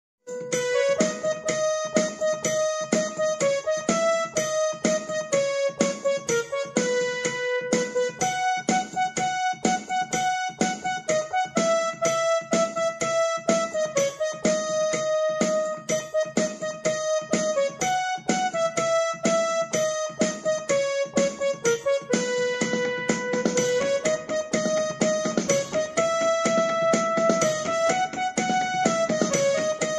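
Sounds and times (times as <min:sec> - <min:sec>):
piano-like keyboard music: 0:00.2 - 0:29.9.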